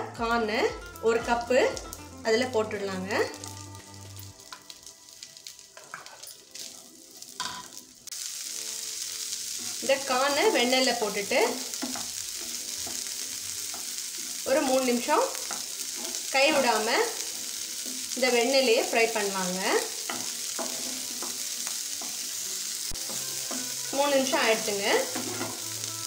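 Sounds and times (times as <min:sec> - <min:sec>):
faint background music: 0:00.0 - 0:26.0
corn frying in butter sizzle: 0:00.8 - 0:26.0.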